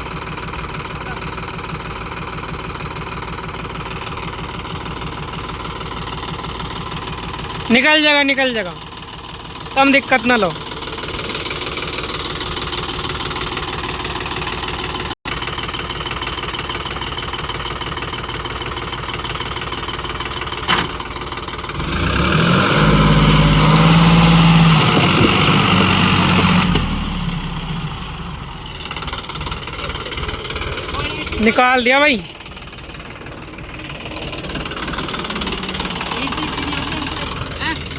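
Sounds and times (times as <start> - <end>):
tractor diesel engine revving: 0.0 - 37.9.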